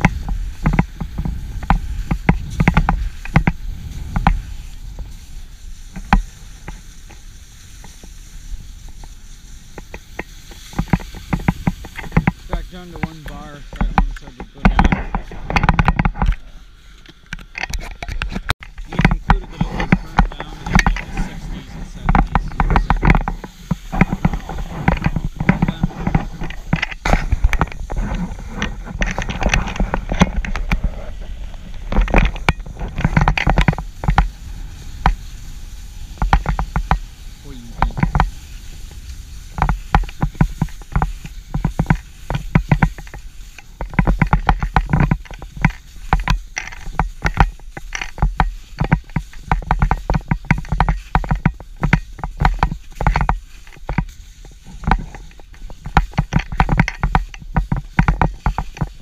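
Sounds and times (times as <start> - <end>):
skis scraping over snow: 0.0 - 17.0, 17.8 - 59.0
wind rumble on microphone: 0.0 - 59.0.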